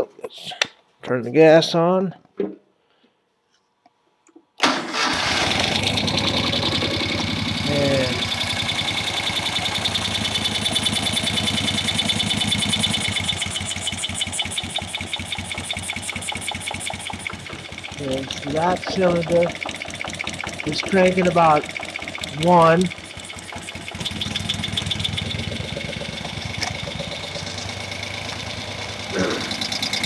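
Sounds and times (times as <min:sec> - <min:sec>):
motorcycle engine running: 0:05.4 - 0:30.0.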